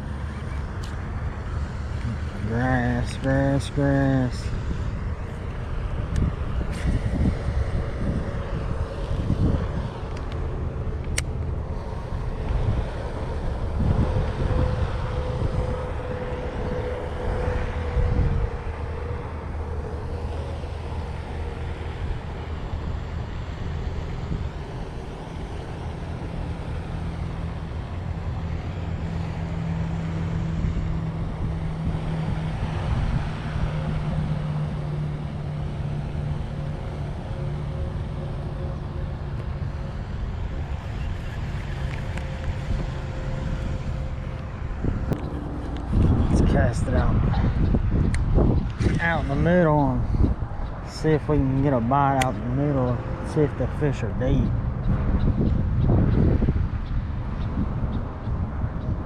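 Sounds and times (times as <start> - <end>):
low motor hum: 0.0 - 59.0
wind buffeting microphone: 0.0 - 59.0.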